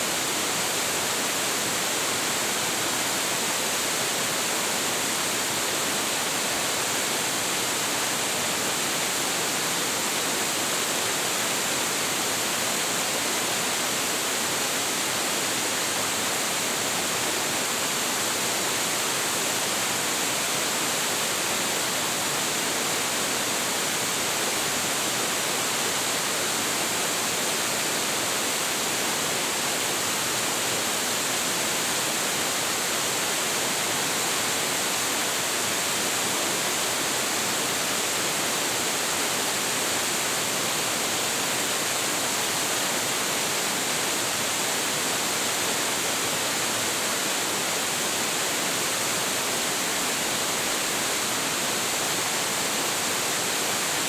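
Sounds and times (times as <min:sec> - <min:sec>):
large waterfall pouring: 0:00.0 - 0:54.0.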